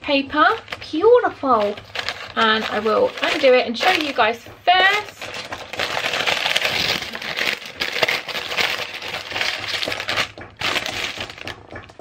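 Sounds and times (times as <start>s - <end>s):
tissue paper rustling and crinkling: 0.5s - 11.6s.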